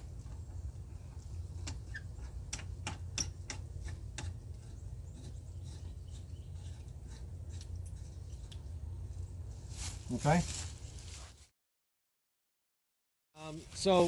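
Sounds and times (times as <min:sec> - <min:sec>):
low steady rumble: 0:00.0 - 0:11.3.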